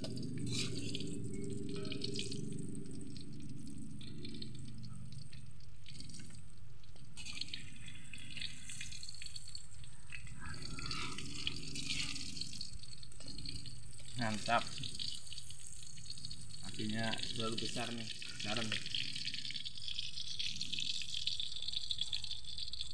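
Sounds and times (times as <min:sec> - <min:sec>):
tofu sizzling in hot oil: 0:00.0 - 0:22.9.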